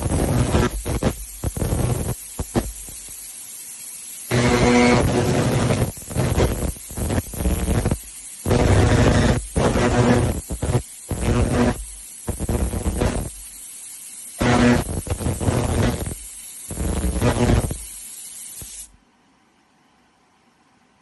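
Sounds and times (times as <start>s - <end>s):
laser cleaner buzzing crackle: 0.0s - 19.0s.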